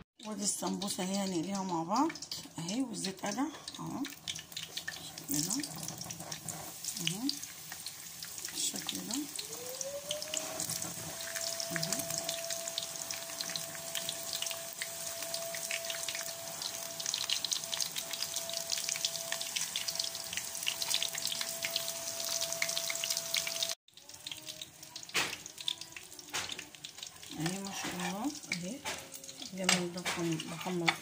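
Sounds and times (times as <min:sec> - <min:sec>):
food deep-frying in oil: 0:00.2 - 0:31.0.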